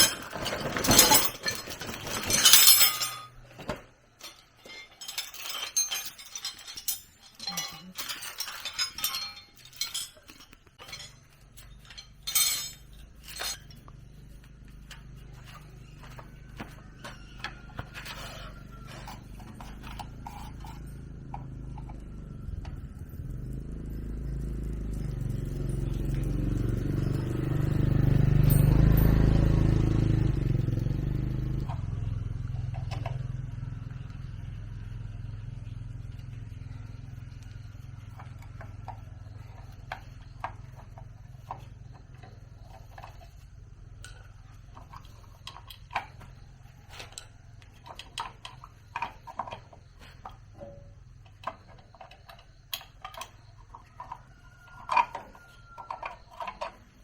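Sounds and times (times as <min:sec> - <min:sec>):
light metal clinks: 0:00.0 - 0:03.5, 0:04.1 - 0:57.0
vehicle engine rumble: 0:00.0 - 0:57.0.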